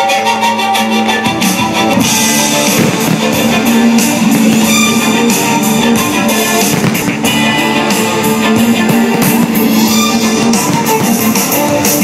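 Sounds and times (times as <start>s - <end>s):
song with guitar: 0.0s - 12.0s.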